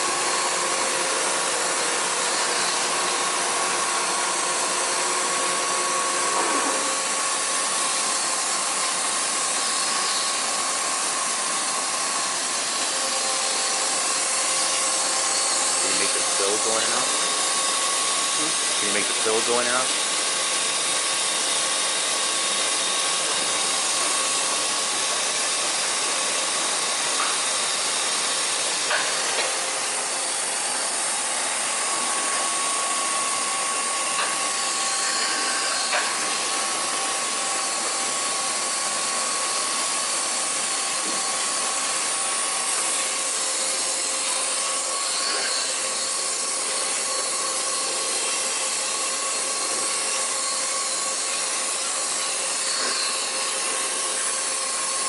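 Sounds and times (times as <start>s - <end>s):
boring mill hiss: 0.0s - 55.0s
thin steady whine: 0.0s - 55.0s.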